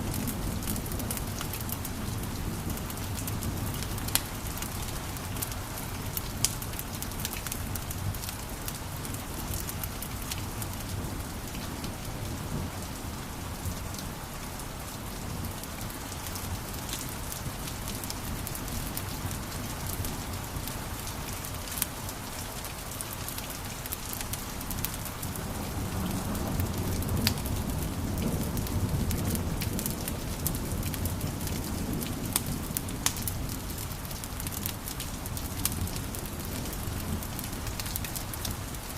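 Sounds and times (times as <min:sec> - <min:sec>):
wood fire crackling: 0:00.0 - 0:13.0, 0:14.9 - 0:38.9.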